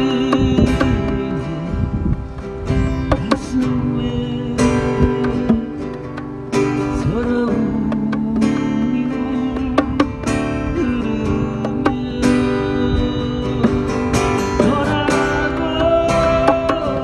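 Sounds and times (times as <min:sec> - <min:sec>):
guitar-led song: 0:00.0 - 0:17.0.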